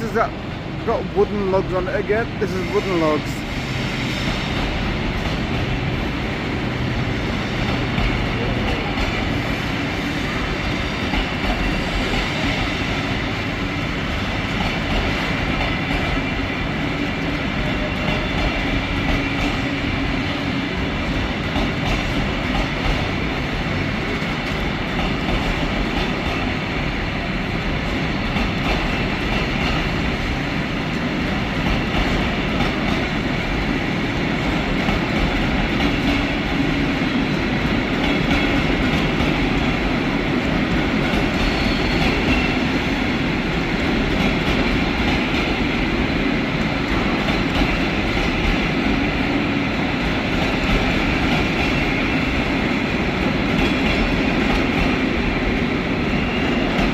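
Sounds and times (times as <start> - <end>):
freight train rolling past: 0.0 - 56.9.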